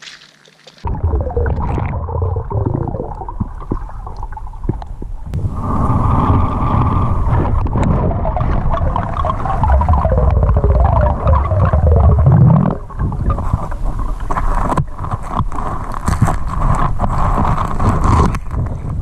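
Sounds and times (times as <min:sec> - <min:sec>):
underwater rumble of moving water: 0:00.8 - 0:19.0.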